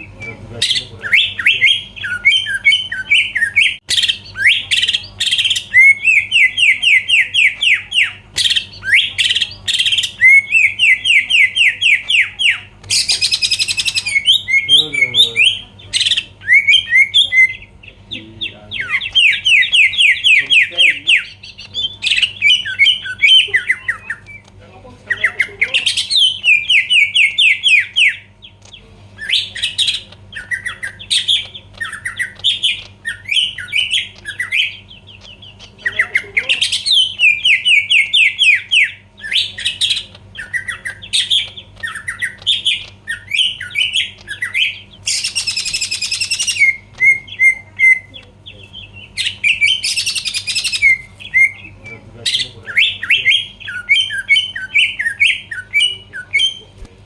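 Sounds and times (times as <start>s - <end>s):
bird whistling song: 0.0s - 24.5s, 25.1s - 56.7s.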